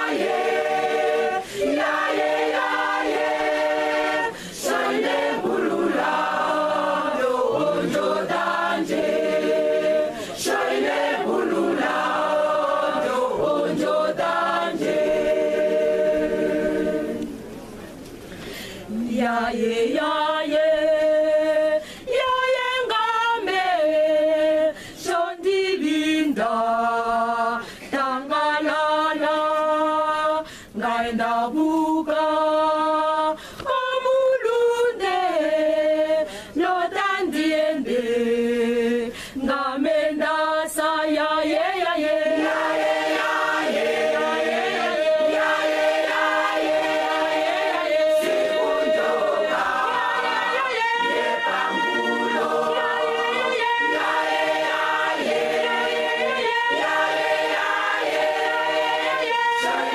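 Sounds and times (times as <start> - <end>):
choir singing in harmony: 0.0 - 17.5, 18.9 - 59.9.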